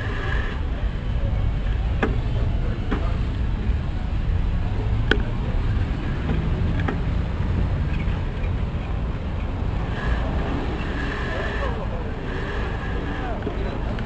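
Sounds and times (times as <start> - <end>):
wind and road vibration rumble: 0.0 - 14.0.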